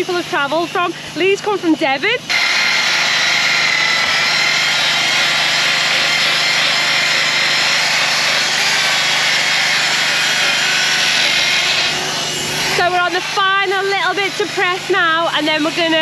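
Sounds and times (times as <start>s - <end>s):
electric sander on wood: 0.0s - 16.0s.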